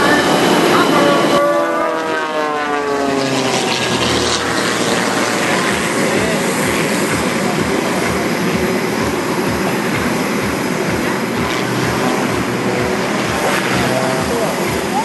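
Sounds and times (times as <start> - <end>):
propeller plane roar: 0.0 - 15.0.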